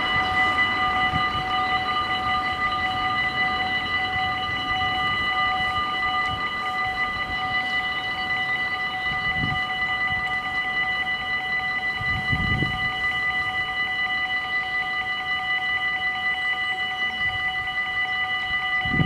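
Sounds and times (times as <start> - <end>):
level crossing warning bells: 0.0 - 19.0.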